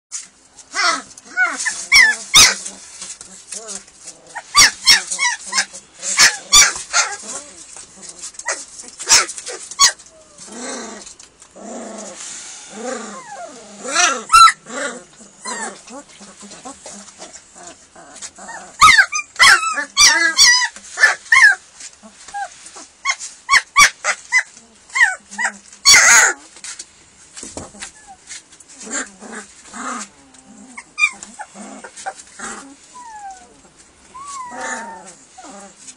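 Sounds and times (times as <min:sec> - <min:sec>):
puppies whining and yipping: 0:00.7 - 0:10.5, 0:12.8 - 0:26.5, 0:27.7 - 0:35.9.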